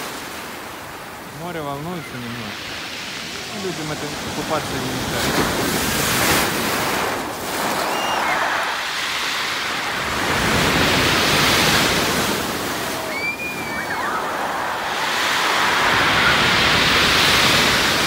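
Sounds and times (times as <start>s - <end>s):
surf washing up pebble beach: 0.0s - 18.0s.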